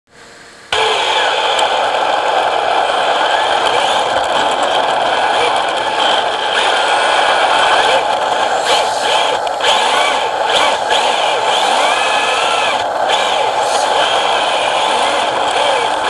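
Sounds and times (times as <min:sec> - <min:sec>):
steady rushing noise: 0:00.5 - 0:16.0
electric motor and gears whining: 0:00.7 - 0:16.0
murmur of voices: 0:00.7 - 0:16.0.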